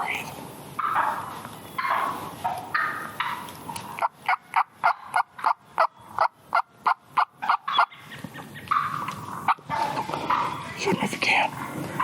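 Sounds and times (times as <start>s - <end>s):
turkey yelping: 0.8s - 10.8s.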